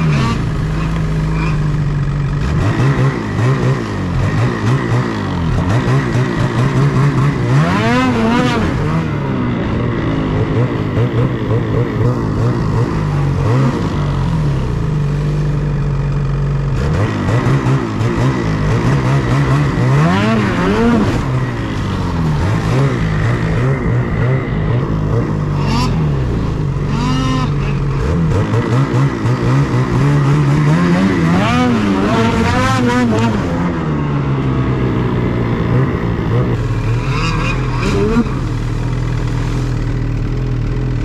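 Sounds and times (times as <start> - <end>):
snowmobile engine revving: 0.0 - 15.7, 16.6 - 41.0.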